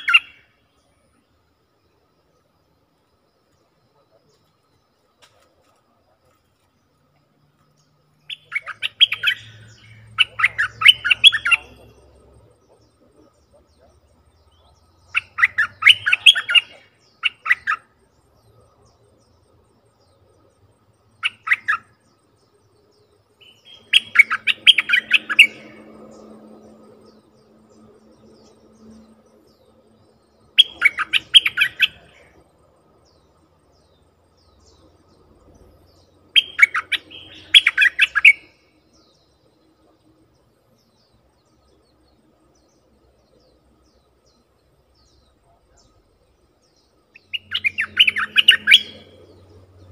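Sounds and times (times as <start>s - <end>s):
bulbul chattering calls: 0.0s - 1.3s, 7.8s - 49.9s.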